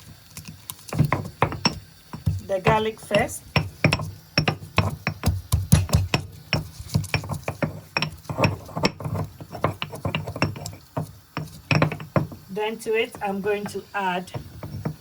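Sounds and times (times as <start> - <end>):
pestle pounding in mortar: 0.8 - 12.5, 13.1 - 15.0.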